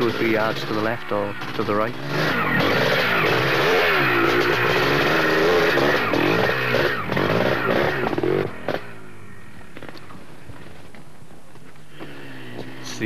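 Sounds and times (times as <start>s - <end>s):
motorcycle engine revving hard: 0.0s - 10.0s, 11.9s - 13.0s.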